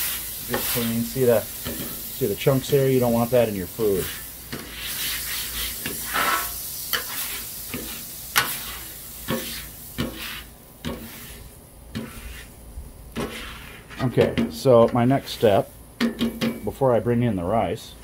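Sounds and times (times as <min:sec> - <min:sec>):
griddle scraper scraping: 0:00.0 - 0:16.7
water sizzling on griddle: 0:00.0 - 0:16.7.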